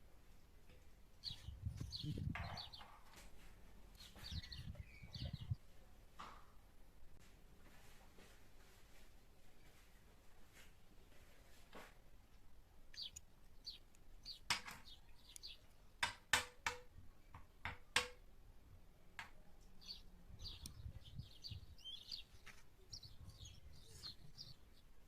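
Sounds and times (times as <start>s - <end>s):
small birds chirping faintly: 0.0s - 7.2s, 8.9s - 25.0s.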